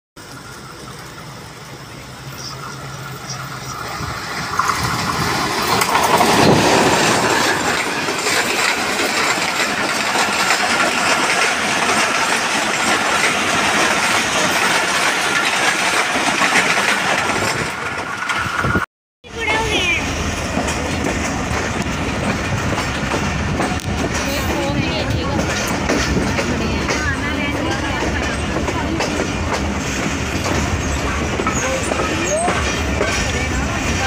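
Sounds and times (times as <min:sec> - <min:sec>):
train wheels and wind rushing: 0:00.2 - 0:34.0.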